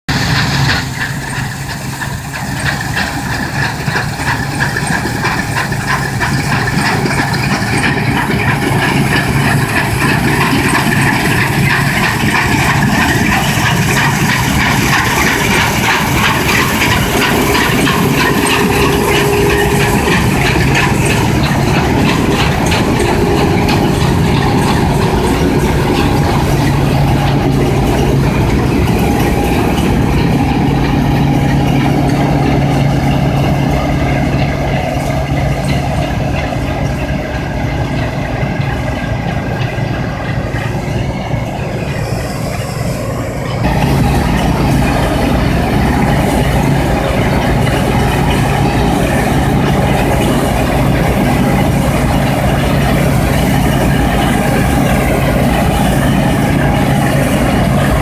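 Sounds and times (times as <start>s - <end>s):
combine harvester engine drone: 0.0s - 58.0s
threshing machinery clatter: 0.1s - 42.7s, 43.5s - 58.0s.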